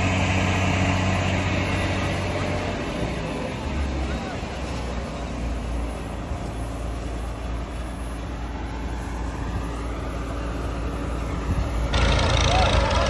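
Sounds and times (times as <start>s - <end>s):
combine harvester engine rumble: 0.0s - 13.0s.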